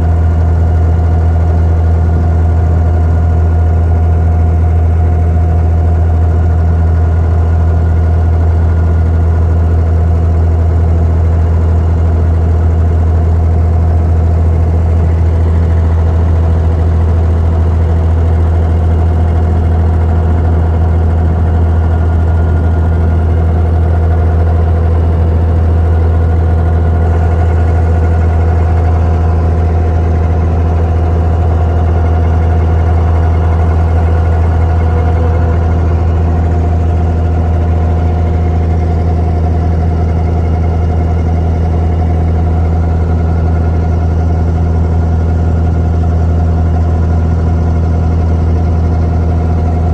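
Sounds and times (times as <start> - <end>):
boat diesel engine droning: 0.0 - 49.9.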